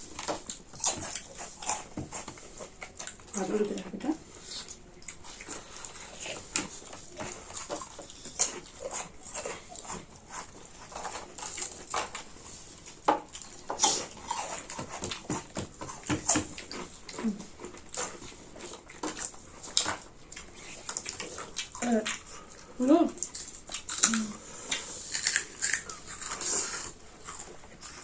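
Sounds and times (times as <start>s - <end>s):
chewing and lip smacking: 0.1s - 3.4s, 4.4s - 28.0s.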